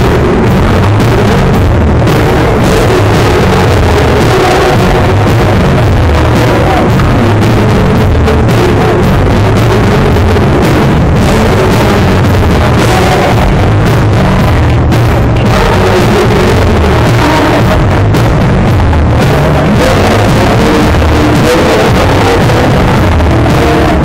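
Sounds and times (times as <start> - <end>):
distorted live band music: 0.0 - 24.0
person singing: 0.0 - 24.0.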